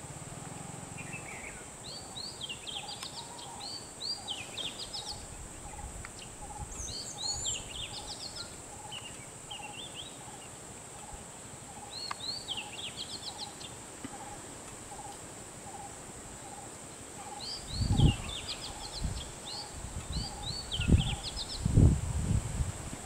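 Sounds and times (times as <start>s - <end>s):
birds chirping: 0.4s - 21.9s.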